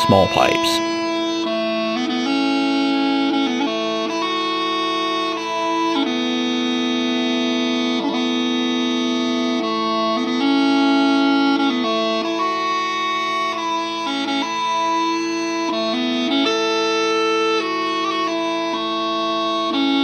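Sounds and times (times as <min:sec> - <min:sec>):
bagpipe drones: 0:00.0 - 0:20.0
smallpipes melody: 0:00.0 - 0:20.0.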